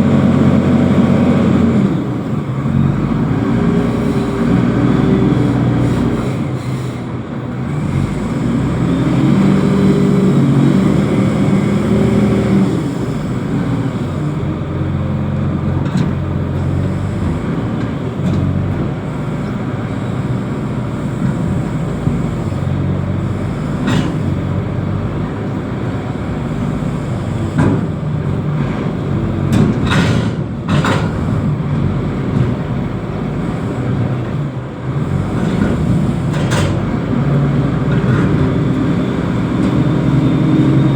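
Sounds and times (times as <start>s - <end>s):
diesel engine under varying load: 0.0s - 40.9s.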